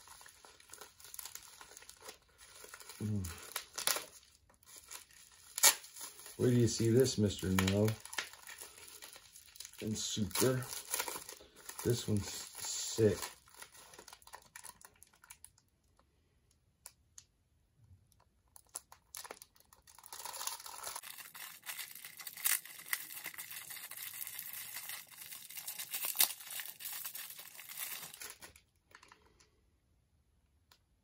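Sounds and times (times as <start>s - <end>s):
plastic bag crinkling: 0.0s - 15.6s, 18.6s - 29.5s.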